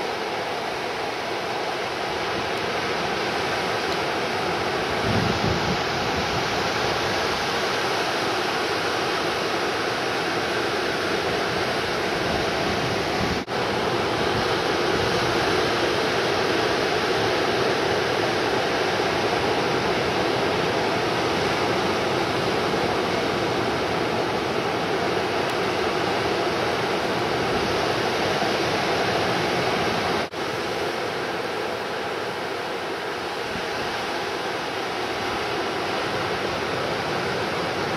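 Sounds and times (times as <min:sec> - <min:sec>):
ocean surf breaking: 0:00.0 - 0:37.9.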